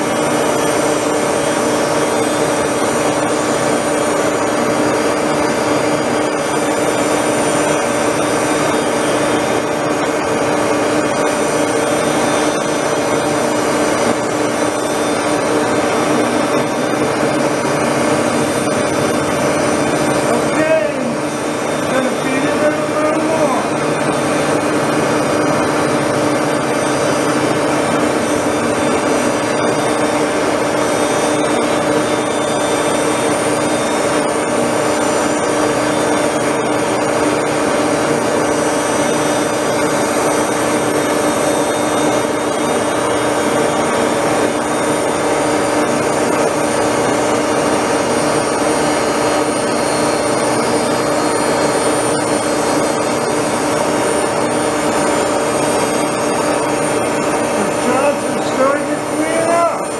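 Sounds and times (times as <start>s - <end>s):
toolpost grinder whining: 0.0s - 59.9s.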